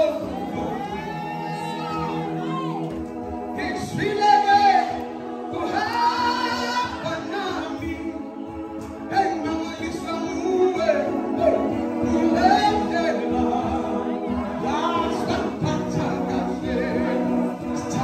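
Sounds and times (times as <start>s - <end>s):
choir singing a gospel song: 0.0s - 18.0s.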